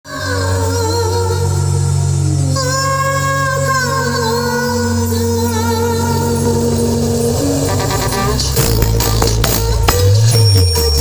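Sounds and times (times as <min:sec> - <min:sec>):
loud song with heavy bass: 0:00.0 - 0:11.0.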